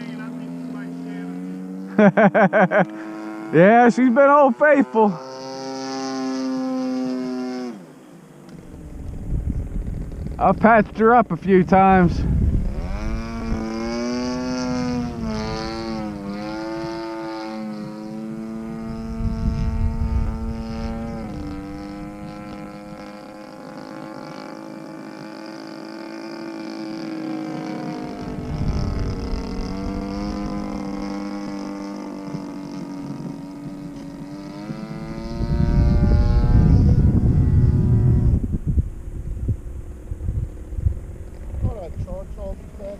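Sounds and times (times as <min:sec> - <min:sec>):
model plane two-stroke engine running: 0:00.0 - 0:42.9
wind rumble on microphone: 0:08.5 - 0:42.9.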